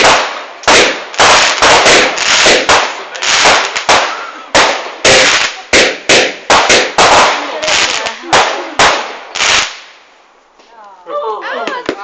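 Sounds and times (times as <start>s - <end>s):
fireworks bangs with crackling: 0.0s - 10.2s.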